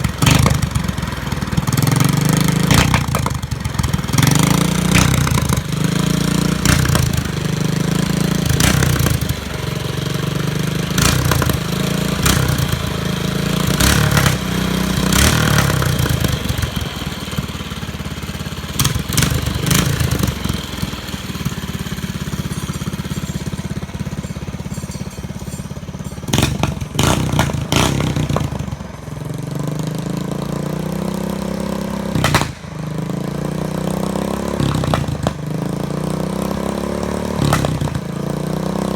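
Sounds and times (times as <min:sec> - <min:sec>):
exhaust pops backfiring: 0:00.0 - 0:38.9
mini bike engine revving: 0:00.0 - 0:38.9.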